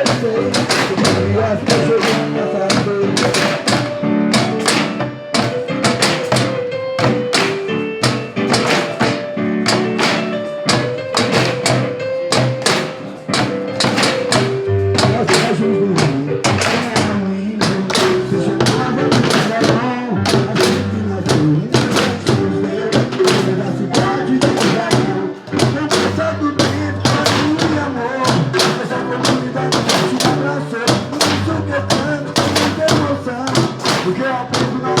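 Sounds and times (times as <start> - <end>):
percussion ensemble on cans: 0.0 - 35.0.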